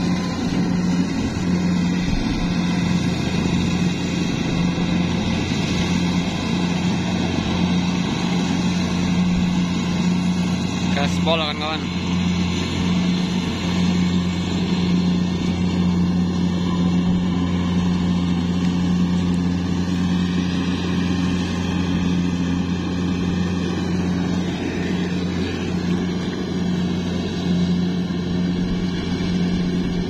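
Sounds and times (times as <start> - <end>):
combine harvester diesel engine: 0.0 - 30.0.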